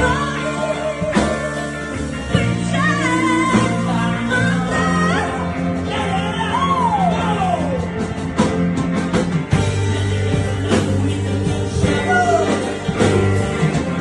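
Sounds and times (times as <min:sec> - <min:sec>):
person singing: 0:00.0 - 0:08.0, 0:09.7 - 0:14.0
rock band playing slow song: 0:00.0 - 0:14.0.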